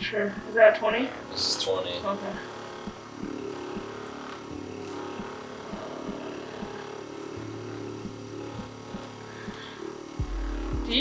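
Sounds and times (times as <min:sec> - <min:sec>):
device motor hum with pulse: 0:00.0 - 0:11.0.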